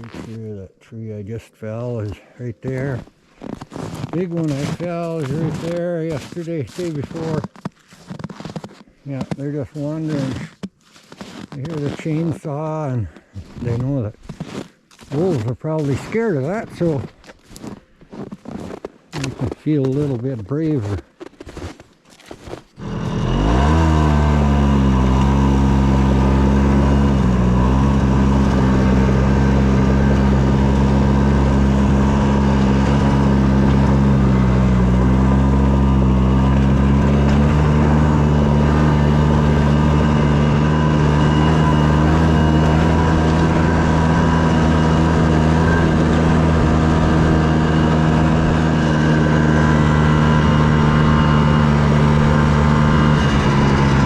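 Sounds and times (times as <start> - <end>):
snowmobile engine running: 0.0 - 21.8, 22.4 - 54.0.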